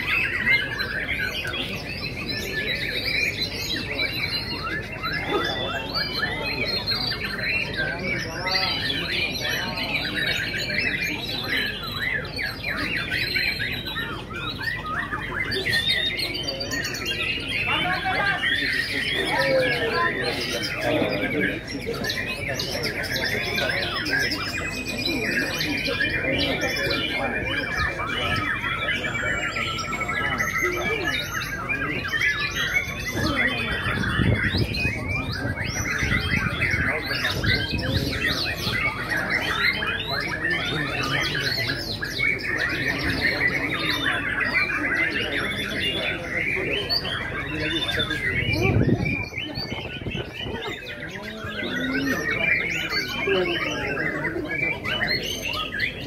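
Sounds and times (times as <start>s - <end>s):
chorus of songbirds whistling: 0.0s - 56.0s
murmur of voices: 0.0s - 56.0s.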